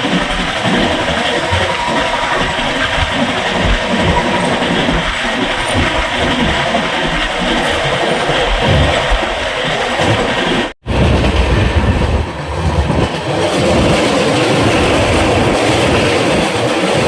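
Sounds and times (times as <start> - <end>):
train wheels rumbling and rattling: 0.0 - 17.0.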